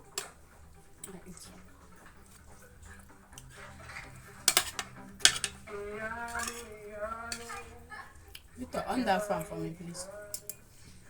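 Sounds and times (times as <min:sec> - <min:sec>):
cutlery clinking against a plate: 0:00.0 - 0:11.0.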